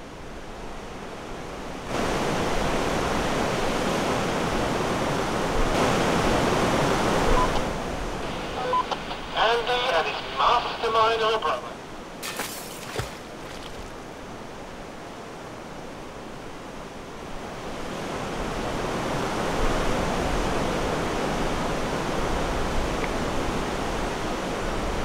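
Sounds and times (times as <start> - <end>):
river water rushing: 0.1 - 25.0.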